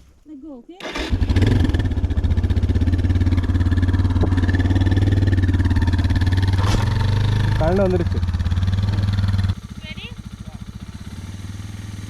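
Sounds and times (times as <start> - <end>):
motorcycle engine running: 0.8 - 12.0.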